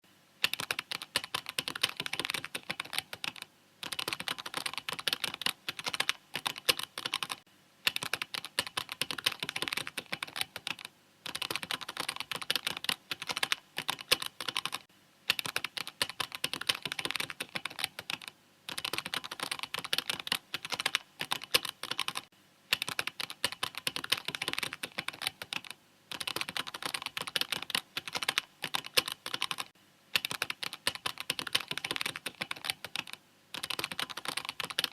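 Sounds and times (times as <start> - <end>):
mechanical keyboard typing: 0.4 - 34.9.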